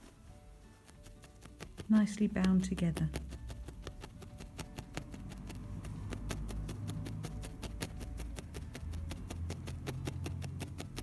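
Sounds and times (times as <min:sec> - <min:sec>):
felting needle ticking: 0:00.0 - 0:11.0.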